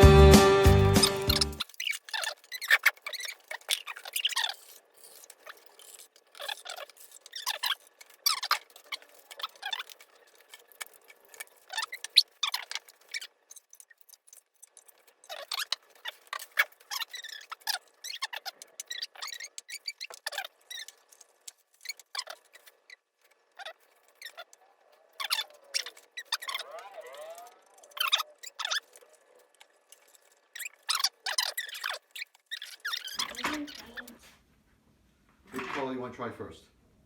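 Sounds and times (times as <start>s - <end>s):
short high squeaks: 1.0s - 34.3s.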